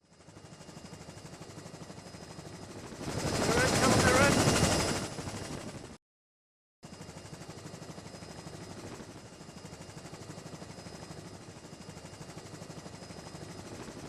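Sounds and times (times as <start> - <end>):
helicopter rotor chop: 0.0 - 6.0, 6.8 - 14.0.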